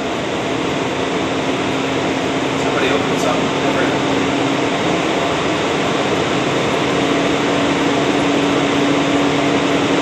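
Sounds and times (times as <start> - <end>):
fan hum: 0.0 - 10.0
fan rushing air: 0.0 - 10.0.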